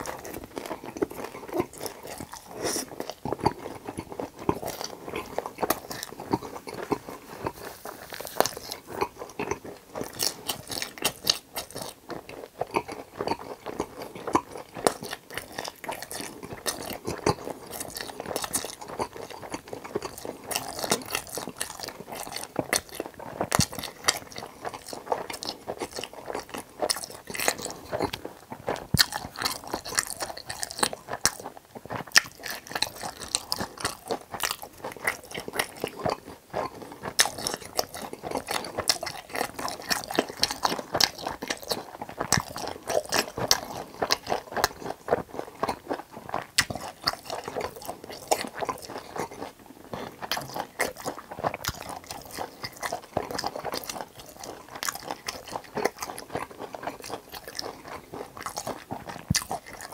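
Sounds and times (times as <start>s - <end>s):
chewing crunchy fried food: 0.0s - 59.9s.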